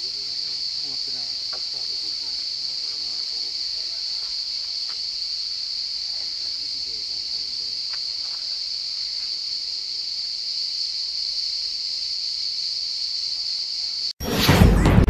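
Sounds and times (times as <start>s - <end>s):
cicadas droning: 0.0s - 14.2s.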